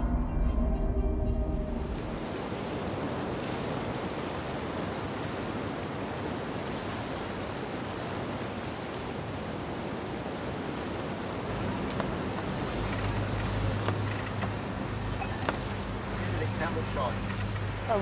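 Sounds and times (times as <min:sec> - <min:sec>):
ocean waves rushing: 0:01.7 - 0:18.0.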